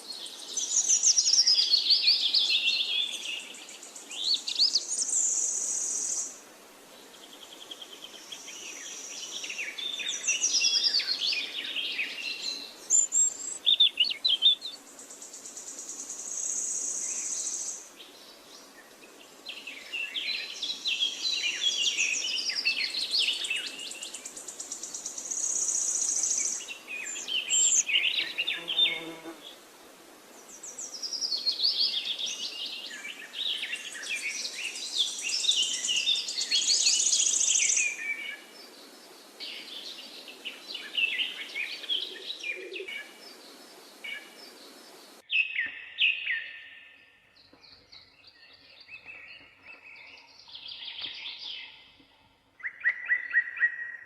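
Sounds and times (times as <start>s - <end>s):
steady background hiss: 0.0s - 45.3s
songbirds singing and chirping: 0.0s - 54.0s.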